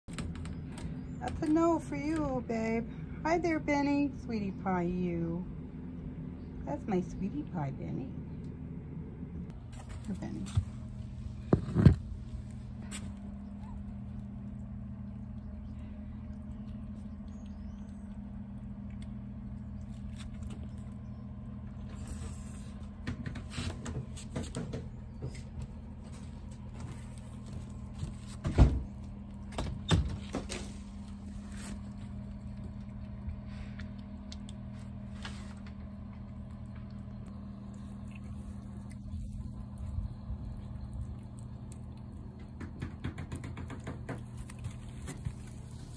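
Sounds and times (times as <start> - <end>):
low machine hum: 0.0 - 45.9.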